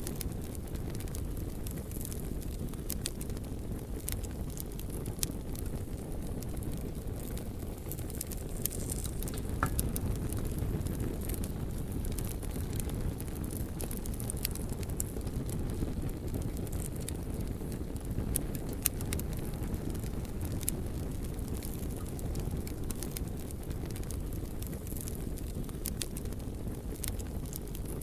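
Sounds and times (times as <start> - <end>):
fire crackling and popping: 0.0 - 28.0
fire rushing: 0.1 - 27.8.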